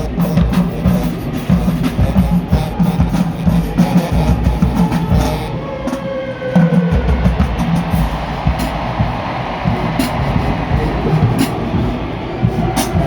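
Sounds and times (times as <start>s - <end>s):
marching band brass: 0.0s - 13.0s
pounding drum beat: 0.0s - 13.0s.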